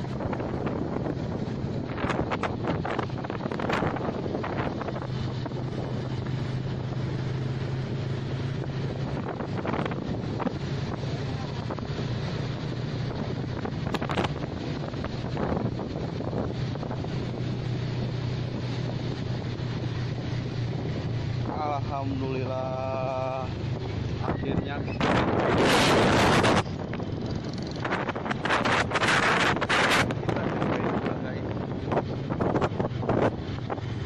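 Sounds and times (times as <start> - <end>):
motorcycle engine drone: 0.0 - 34.0
wind rushing over microphone: 0.0 - 34.0.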